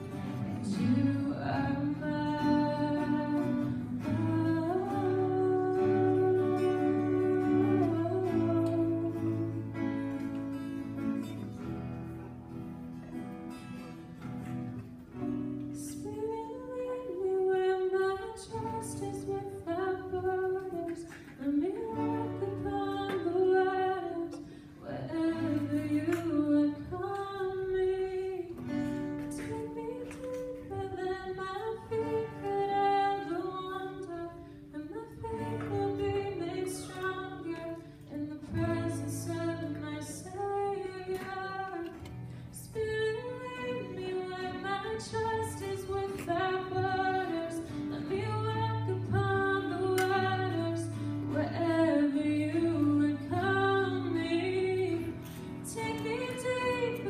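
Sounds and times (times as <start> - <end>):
woman singing: 0.0 - 11.4, 15.1 - 57.0
strummed acoustic guitar: 0.0 - 57.0.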